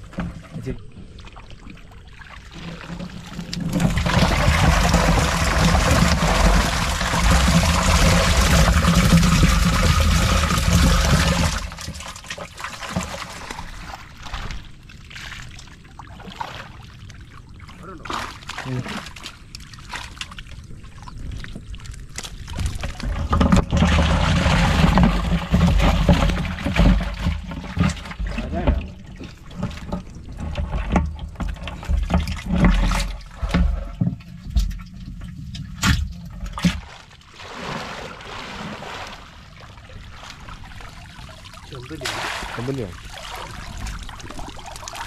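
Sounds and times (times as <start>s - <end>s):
water splashing and trickling: 0.0s - 45.0s.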